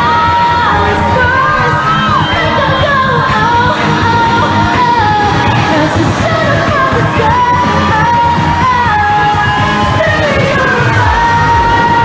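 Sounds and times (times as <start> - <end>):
band playing: 0.0 - 12.0
woman singing pop song: 0.0 - 12.0.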